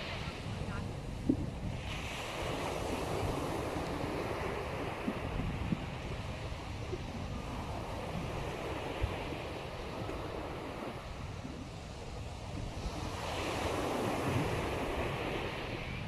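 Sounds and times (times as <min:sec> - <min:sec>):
sea waves breaking on beach: 0:00.0 - 0:16.0
wind rumbling on microphone: 0:00.0 - 0:16.0.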